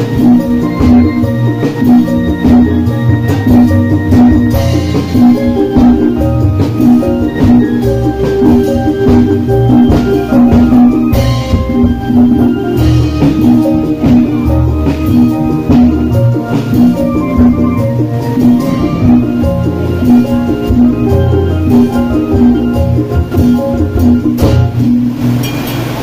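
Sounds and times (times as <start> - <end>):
electric keyboard melody: 0.0 - 25.4
plastic barrels drummed with sticks: 0.0 - 25.5.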